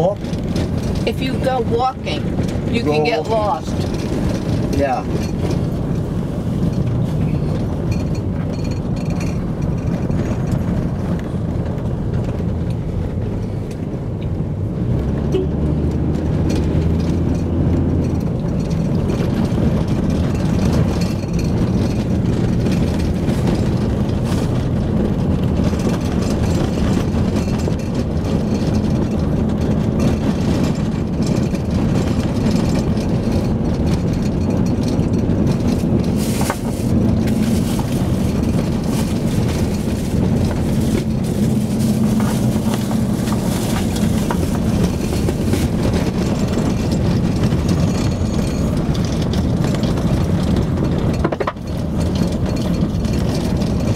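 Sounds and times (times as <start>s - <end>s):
road noise: 0.0s - 53.9s
vehicle engine: 0.0s - 53.9s.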